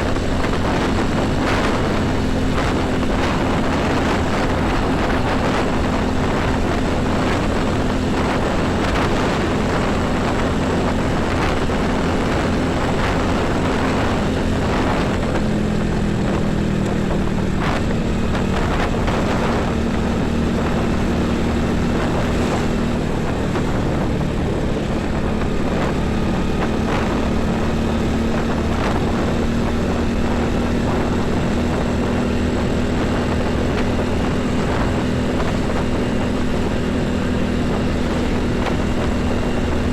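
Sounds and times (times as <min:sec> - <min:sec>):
highway traffic diesel engines: 0:00.0 - 0:39.9.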